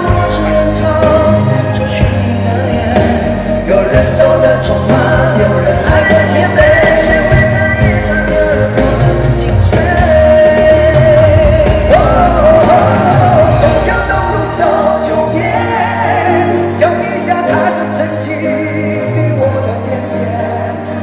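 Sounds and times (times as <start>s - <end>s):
man singing into a microphone: 0.0s - 21.0s
pop backing music: 0.0s - 21.0s.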